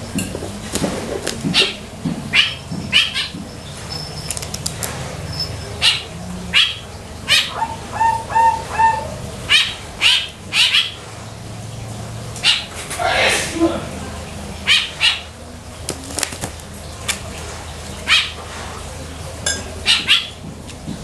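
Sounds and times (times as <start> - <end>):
birds chirping: 0.0 - 21.0
lower bird calls: 0.0 - 21.0.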